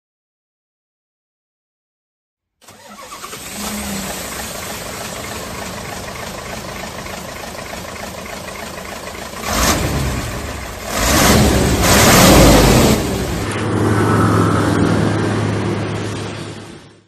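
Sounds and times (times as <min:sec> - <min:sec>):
truck engine starting and running: 0:02.6 - 0:17.0.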